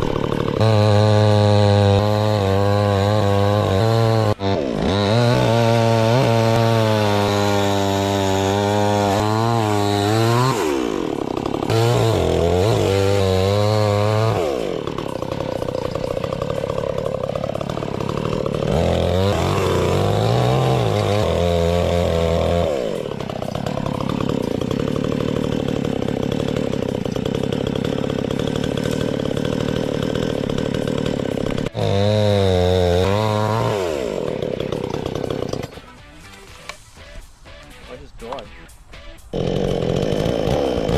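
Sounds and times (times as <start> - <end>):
chainsaw revving: 0.0 - 36.8, 39.2 - 40.9.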